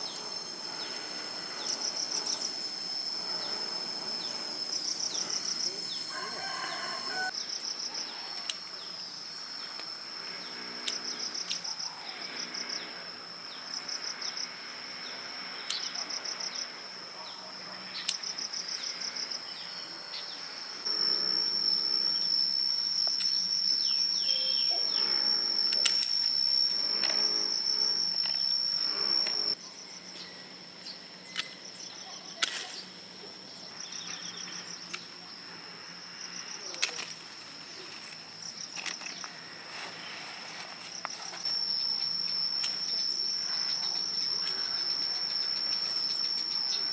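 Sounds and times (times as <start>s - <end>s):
insect buzzing: 0.0s - 29.9s, 31.6s - 46.9s
insects trilling: 0.0s - 46.9s.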